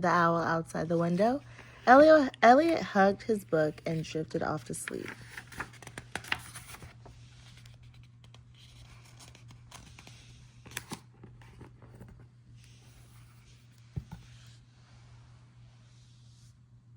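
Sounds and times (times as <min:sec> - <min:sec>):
low electrical hum: 0:00.0 - 0:16.9.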